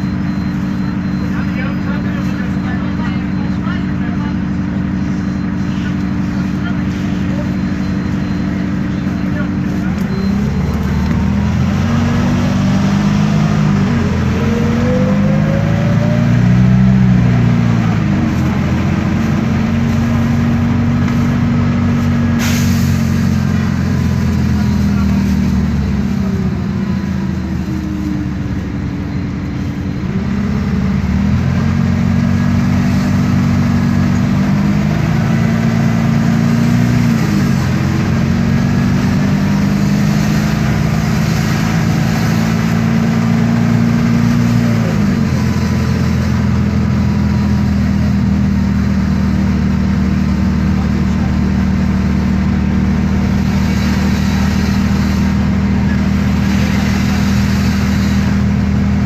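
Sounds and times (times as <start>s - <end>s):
bus diesel engine accelerating: 0.0s - 59.0s
transmission whine: 0.0s - 59.0s.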